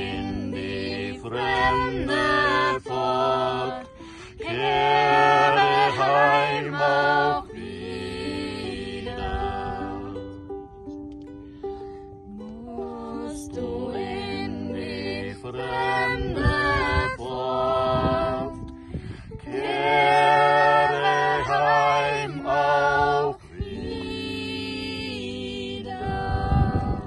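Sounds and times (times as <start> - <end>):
man and women singing in harmony: 0.0 - 10.4, 12.3 - 27.0
ukulele: 0.0 - 27.0.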